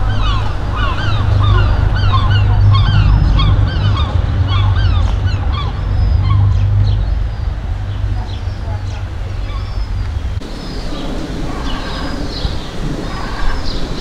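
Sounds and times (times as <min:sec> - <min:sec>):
flock of birds calling: 0:00.0 - 0:14.0
steady low rumble: 0:00.0 - 0:14.0.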